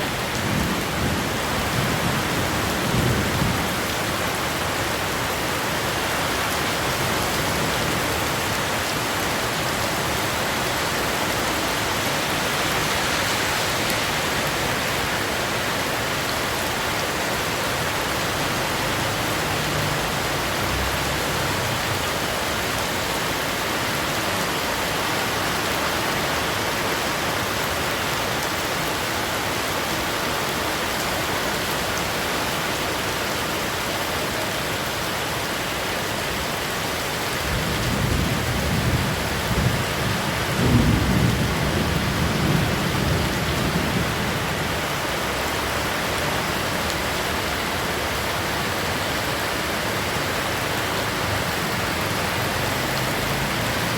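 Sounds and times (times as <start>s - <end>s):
heavy rain splashing: 0.0s - 53.9s.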